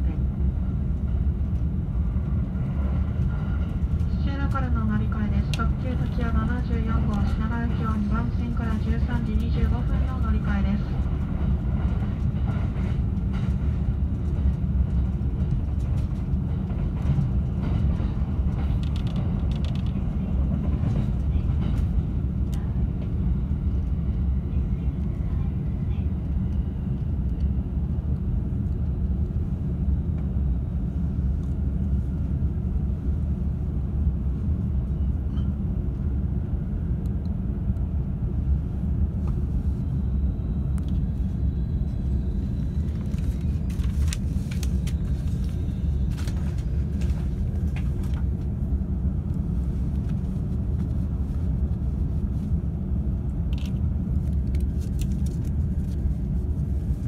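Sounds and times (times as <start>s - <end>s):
electric train rumble: 0.0s - 57.0s.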